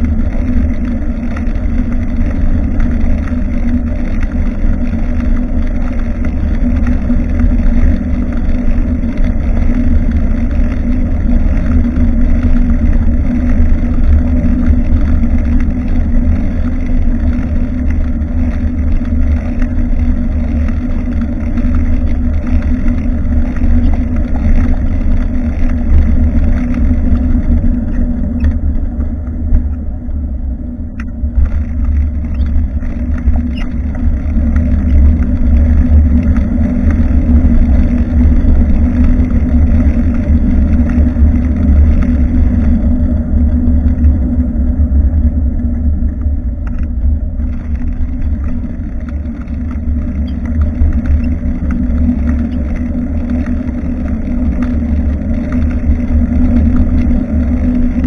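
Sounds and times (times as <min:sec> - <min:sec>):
steady low hum: 0:00.0 - 0:58.0
wind buffeting microphone: 0:00.0 - 0:58.0.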